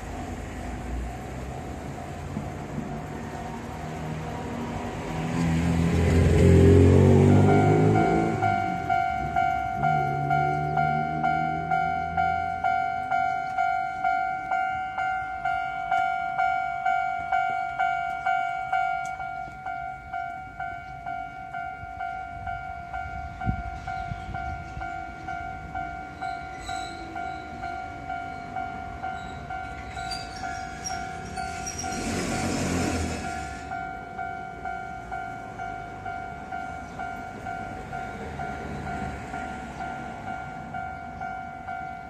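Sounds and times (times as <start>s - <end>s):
train running noise: 0.0s - 42.0s
level crossing warning bell: 5.3s - 42.0s.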